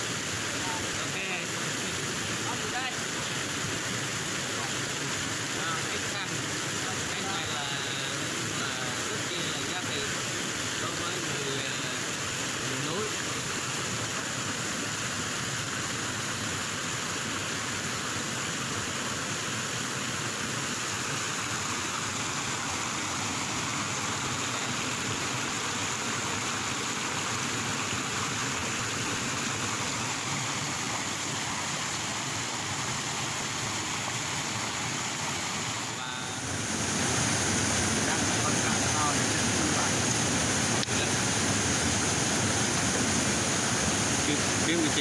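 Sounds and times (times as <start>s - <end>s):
stream cascading over rocks: 0.0s - 45.0s.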